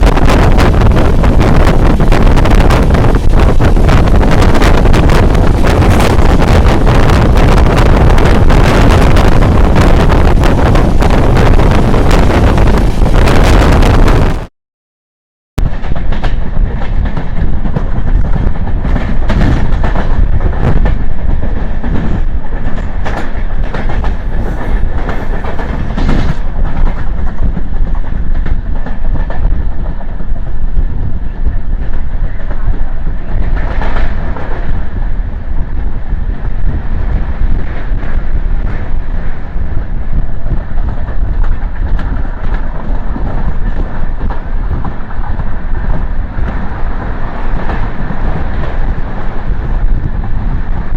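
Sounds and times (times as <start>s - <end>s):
train wheels rumbling and clattering: 0.0s - 14.5s, 15.6s - 50.9s.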